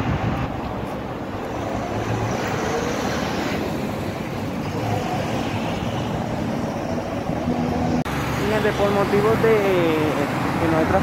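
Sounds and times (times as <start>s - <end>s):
road traffic of passing cars: 0.0s - 11.0s.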